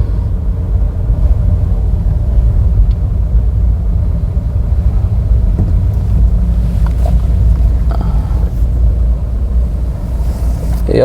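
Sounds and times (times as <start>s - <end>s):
car driving slowly: 0.0s - 11.0s.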